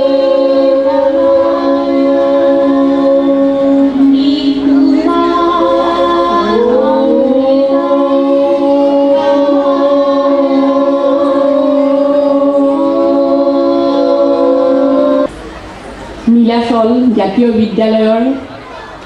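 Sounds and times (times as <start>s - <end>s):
person singing a long note: 0.0s - 15.3s.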